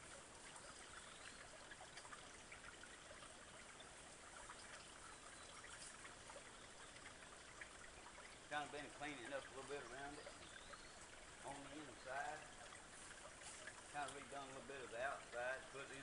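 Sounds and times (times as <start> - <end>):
faint creek trickle: 0.0 - 16.0.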